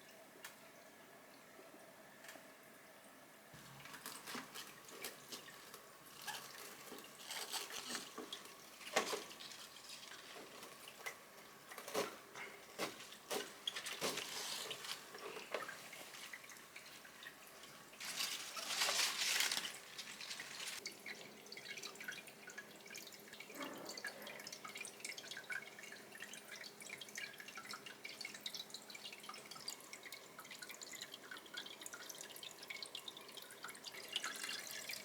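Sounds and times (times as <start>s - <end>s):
running water: 0.0s - 35.0s
water dripping and splashing: 3.6s - 35.0s.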